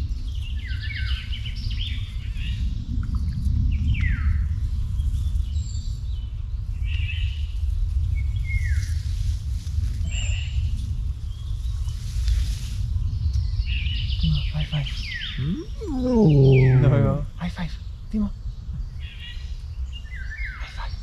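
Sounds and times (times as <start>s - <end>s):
wild birds singing: 0.0s - 21.0s
steady low rumble: 1.2s - 20.0s.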